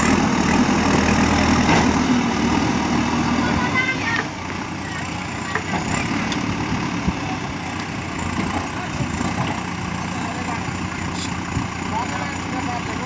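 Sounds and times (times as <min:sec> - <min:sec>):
diesel engine running at low revs: 0:00.0 - 0:13.0.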